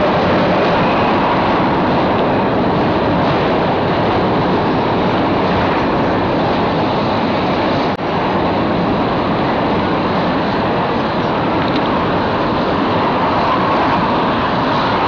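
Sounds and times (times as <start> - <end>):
train wheels running on track: 0.0 - 15.0.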